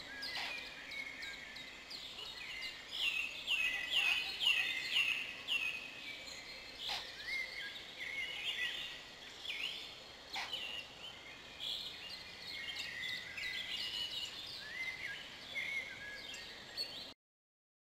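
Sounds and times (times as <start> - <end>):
songbirds singing: 0.0 - 17.2.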